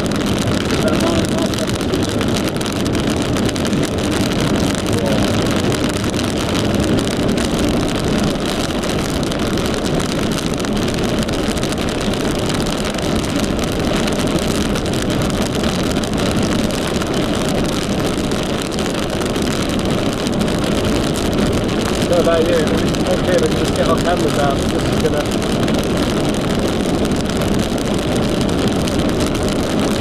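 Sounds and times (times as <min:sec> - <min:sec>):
car road and engine noise: 0:00.0 - 0:30.0
wind noise: 0:00.0 - 0:30.0.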